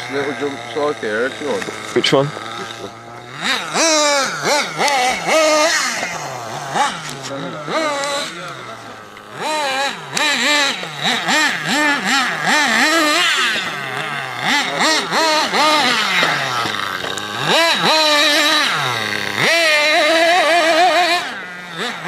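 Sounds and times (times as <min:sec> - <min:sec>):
small engine revving whine: 0:00.0 - 0:22.0.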